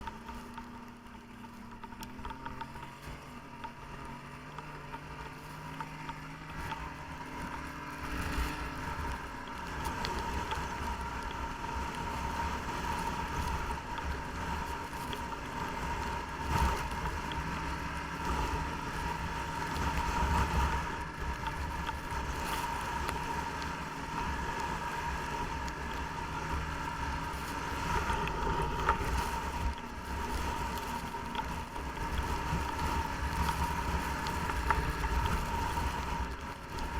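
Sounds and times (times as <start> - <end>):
snowmobile engine running: 0.0 - 36.9
steady high whine: 0.0 - 36.9
wind rumbling on microphone: 4.7 - 36.9.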